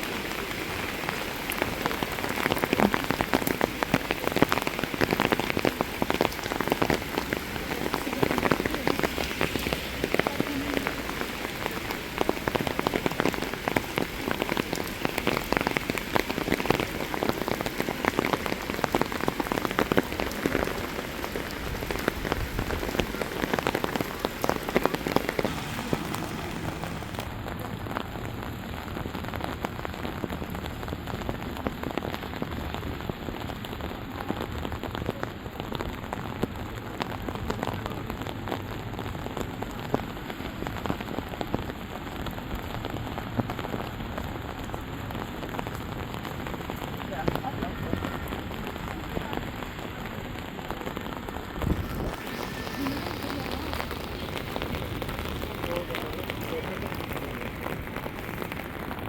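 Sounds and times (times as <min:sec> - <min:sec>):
rain pattering on surfaces: 0:00.0 - 0:59.0.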